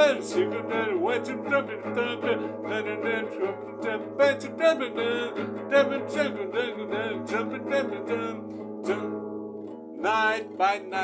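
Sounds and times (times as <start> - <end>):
person singing: 0.0 - 9.3, 10.0 - 11.0
strummed guitar: 0.0 - 11.0.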